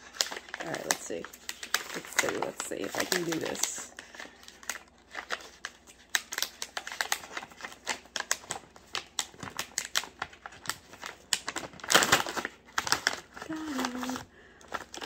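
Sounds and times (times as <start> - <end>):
snack pouch crinkling: 0.0 - 15.0.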